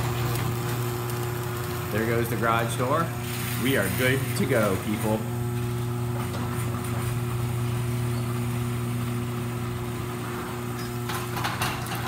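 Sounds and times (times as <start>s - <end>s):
garage door opener humming: 0.0s - 12.0s.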